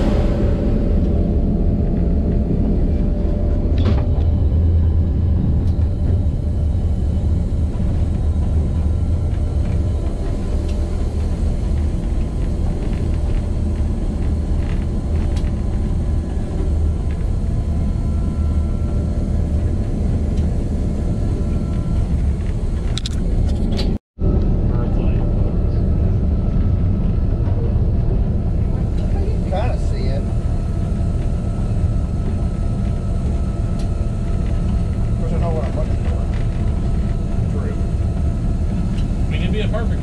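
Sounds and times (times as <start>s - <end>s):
locomotive engine rumble: 0.0s - 40.0s.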